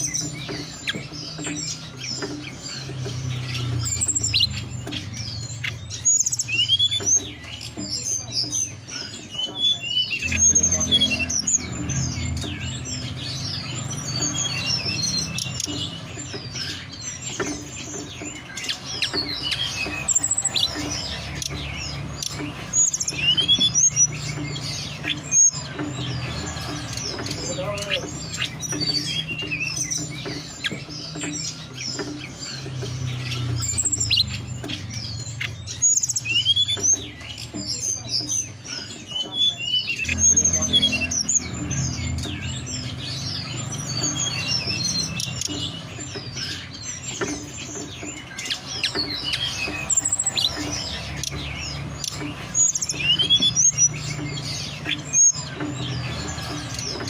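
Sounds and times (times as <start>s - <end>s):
bird chirps and whistled notes: 0.0s - 57.0s.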